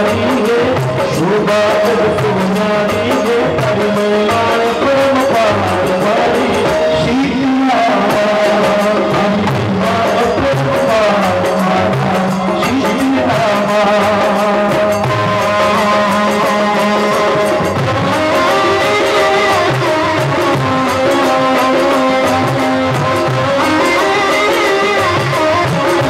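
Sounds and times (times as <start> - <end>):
drum beat: 0.0 - 26.0
instrumental accompaniment: 0.0 - 26.0
man singing into microphone: 0.0 - 26.0.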